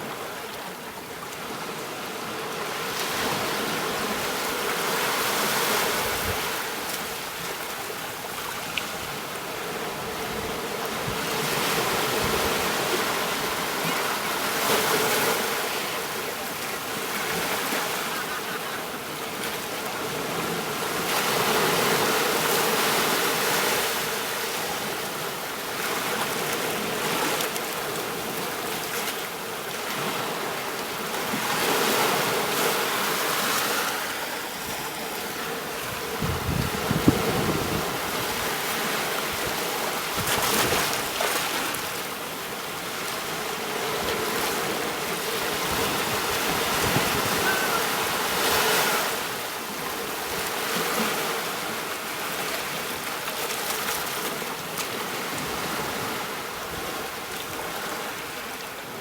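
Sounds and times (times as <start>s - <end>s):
surf breaking on a beach: 1.5s - 59.0s.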